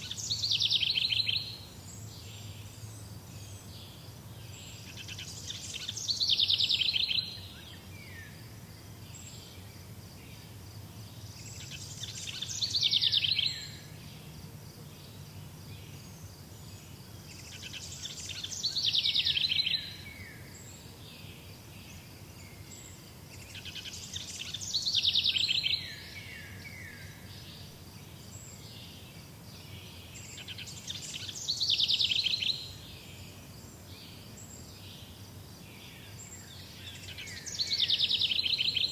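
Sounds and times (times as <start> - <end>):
songbird trilling song: 0.0 - 8.4, 9.0 - 14.3, 14.9 - 38.9.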